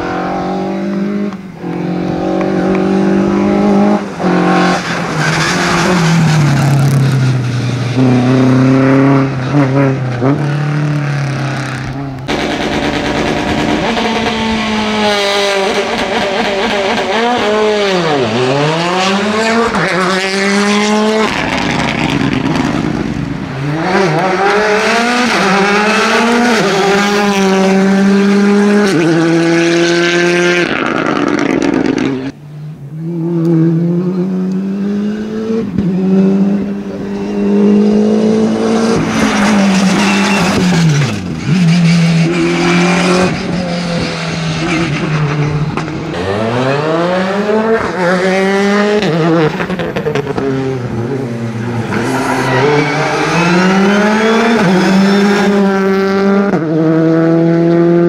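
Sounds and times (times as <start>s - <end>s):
cars passing by: 0.0s - 58.0s
rally car engines revving: 0.0s - 58.0s.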